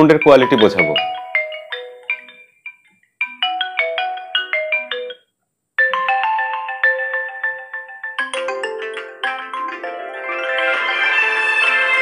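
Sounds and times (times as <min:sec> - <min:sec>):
marimba-like phone ringtones: 0:00.0 - 0:12.0.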